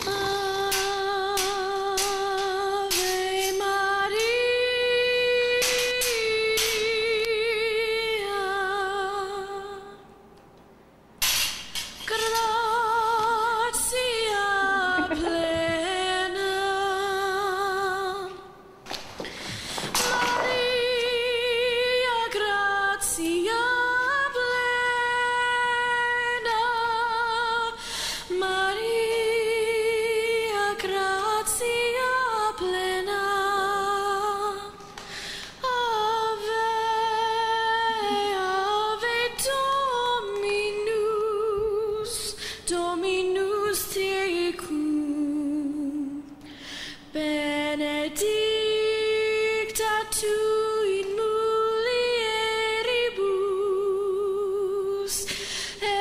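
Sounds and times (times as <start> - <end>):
woman singing unaccompanied: 0.0 - 10.2, 12.0 - 18.6, 20.0 - 35.0, 35.6 - 46.5, 47.1 - 56.0.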